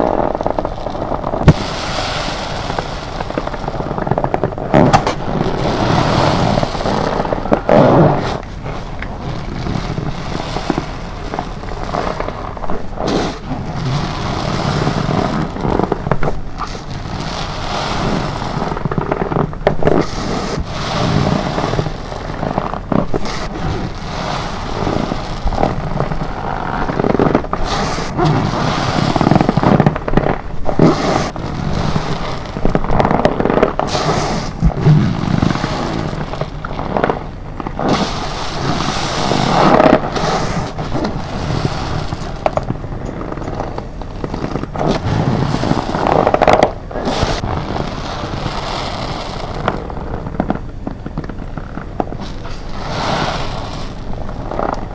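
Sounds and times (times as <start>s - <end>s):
soapy sponge squelching: 0.0s - 54.9s
rubber gloves squeaking: 2.7s - 54.9s.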